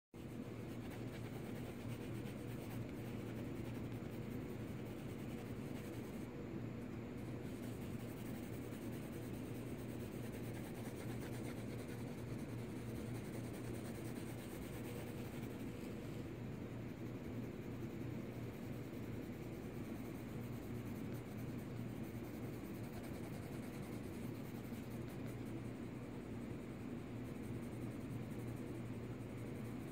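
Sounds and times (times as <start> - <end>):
pencil scratching on paper: 0.2 - 6.3, 7.2 - 16.2, 16.9 - 25.7, 27.0 - 29.9
low steady hum: 0.2 - 29.9.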